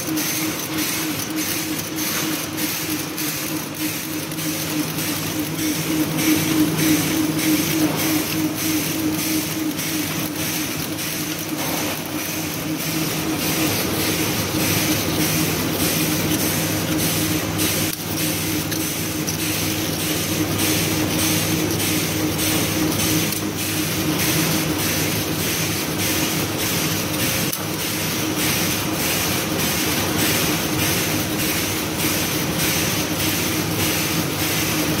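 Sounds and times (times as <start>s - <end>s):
machine clacking: 0.0s - 35.0s
packing machine hum: 0.0s - 35.0s.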